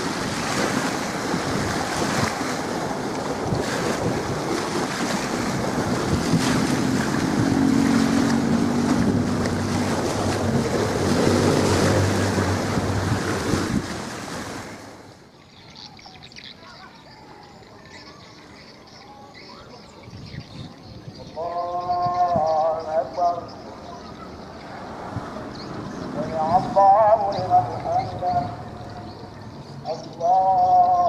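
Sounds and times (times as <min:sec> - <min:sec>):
wind buffeting microphone: 0:00.0 - 0:15.0, 0:19.8 - 0:30.9.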